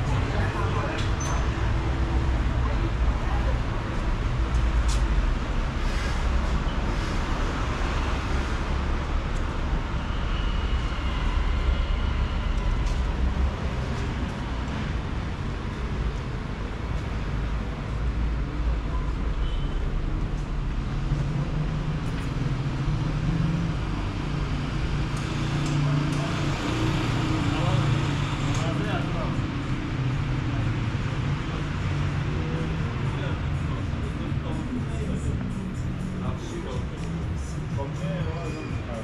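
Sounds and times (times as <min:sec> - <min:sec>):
passing cars: 0:00.0 - 0:39.0.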